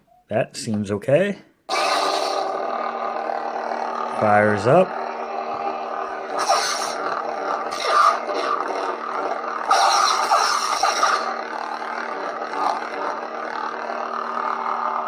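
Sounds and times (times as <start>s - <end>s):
lightsaber electric hum: 1.7s - 15.0s.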